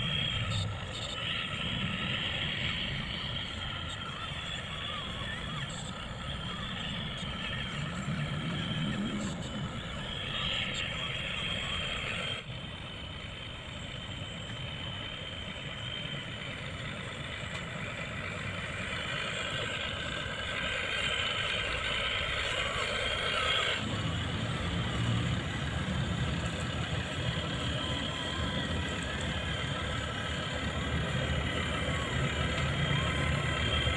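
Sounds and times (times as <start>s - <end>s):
model truck diesel engine: 0.0s - 33.9s.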